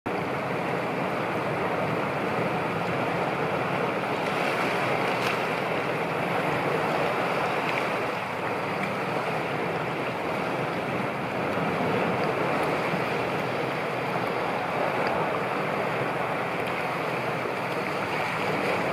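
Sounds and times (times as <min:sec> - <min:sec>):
choppy sea waves: 0:00.1 - 0:18.9.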